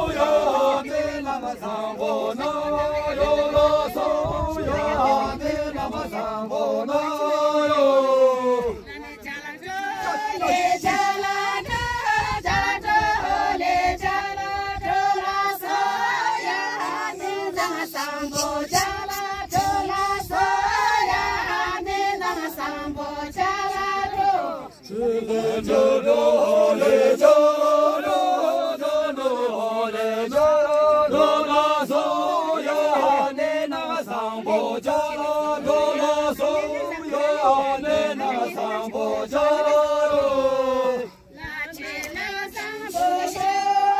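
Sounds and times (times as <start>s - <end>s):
group singing in unison: 0.0s - 43.9s.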